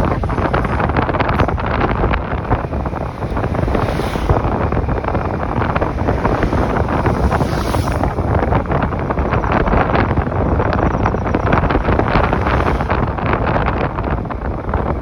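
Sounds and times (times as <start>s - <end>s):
motorcycle engine: 0.0s - 15.0s
road noise: 0.0s - 15.0s
wind buffeting microphone: 0.0s - 15.0s.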